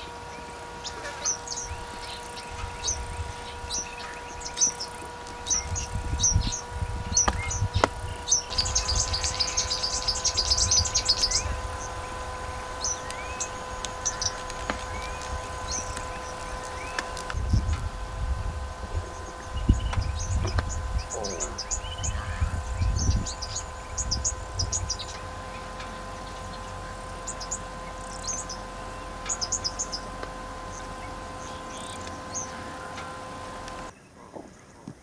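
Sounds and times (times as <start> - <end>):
bird trilling: 0.0 - 33.9
low uneven rumble: 0.0 - 34.7
birds chirping: 0.0 - 35.0.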